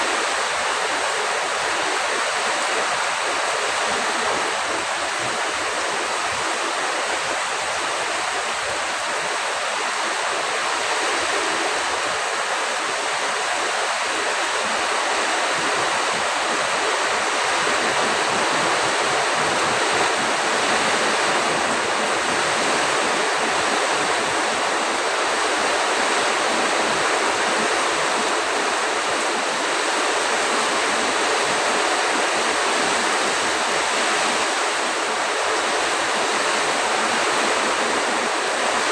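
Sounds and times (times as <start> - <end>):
heavy rain pouring: 0.0 - 38.9
strong wind: 0.0 - 38.9.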